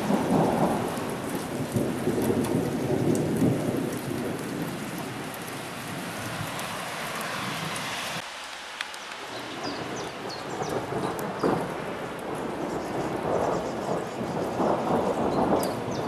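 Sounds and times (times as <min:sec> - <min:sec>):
thunder rolling: 0:00.0 - 0:06.6, 0:09.4 - 0:16.0
steady rain hiss: 0:00.0 - 0:16.0.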